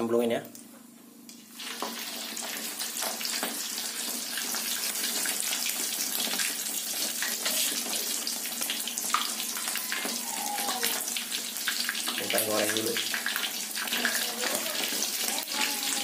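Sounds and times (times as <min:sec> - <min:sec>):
bird frying in hot oil: 0:01.3 - 0:16.0.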